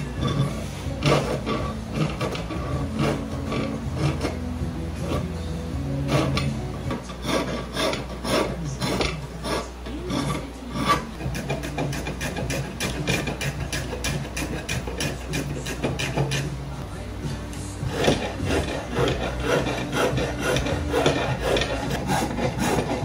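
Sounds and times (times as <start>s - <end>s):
low hum: 0.0s - 23.0s
rasp scraping wood: 0.0s - 23.0s.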